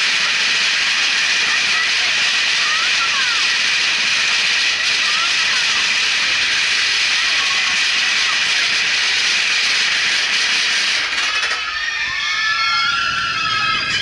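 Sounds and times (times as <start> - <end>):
roller coaster wheels roaring: 0.0 - 14.0.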